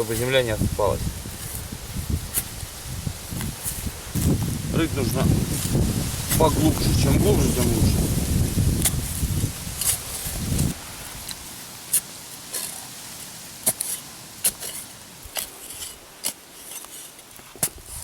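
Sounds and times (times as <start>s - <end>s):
tool scraping sandy soil: 0.0s - 18.0s.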